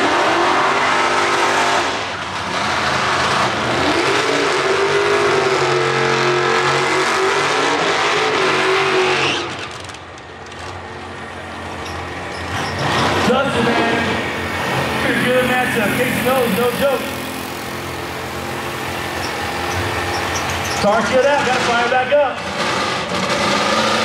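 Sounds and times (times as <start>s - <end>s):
car engine revving high: 0.0s - 9.6s, 11.3s - 24.0s.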